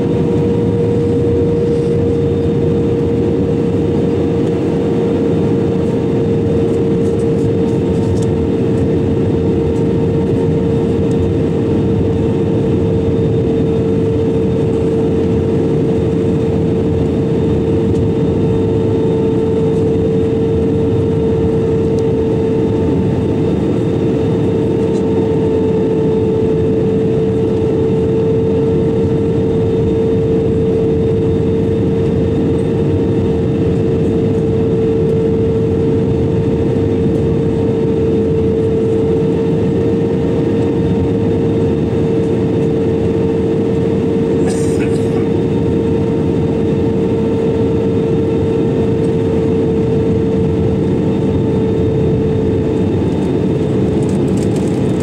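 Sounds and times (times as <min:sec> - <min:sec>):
jet engine drone: 0:00.0 - 0:55.0
steady low hum: 0:00.0 - 0:55.0.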